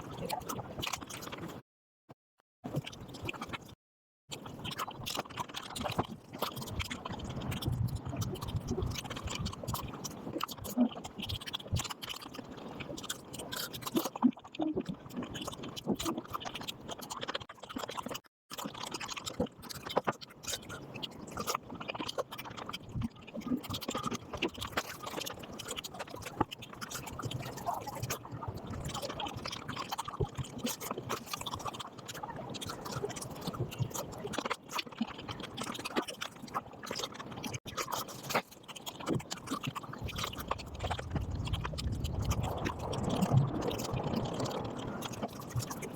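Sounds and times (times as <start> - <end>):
sped-up chewing and smacking: 0.0 - 1.6, 2.7 - 45.9.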